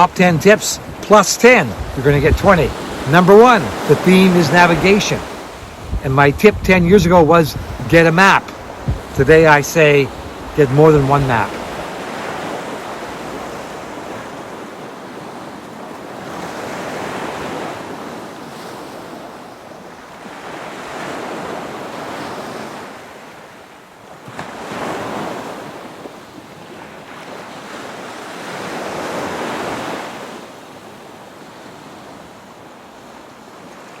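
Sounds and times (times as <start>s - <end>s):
sea waves washing in: 0.0s - 34.0s.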